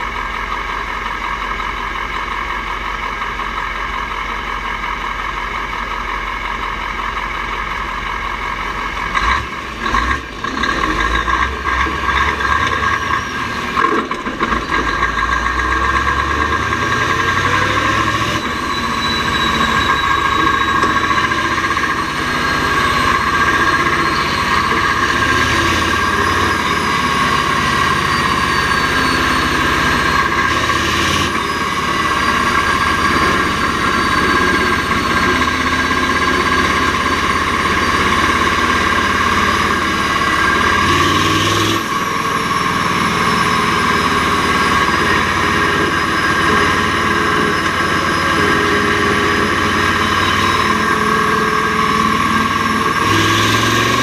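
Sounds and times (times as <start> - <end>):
race truck engine running: 0.0 - 54.0.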